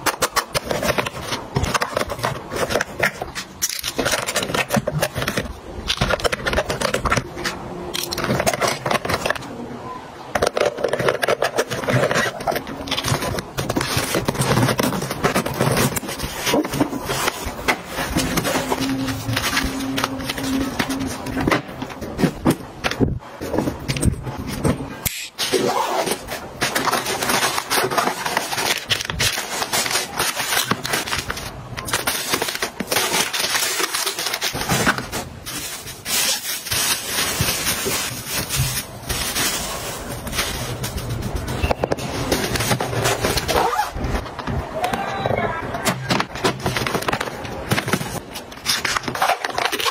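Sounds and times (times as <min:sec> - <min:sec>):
plastic items clicking and rustling: 0:00.0 - 0:49.9.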